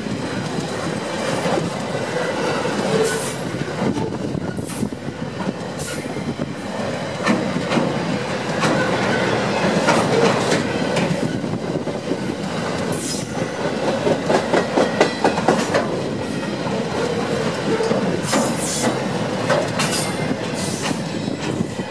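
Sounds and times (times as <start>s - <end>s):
freight train wheels rumbling: 0.0s - 21.9s.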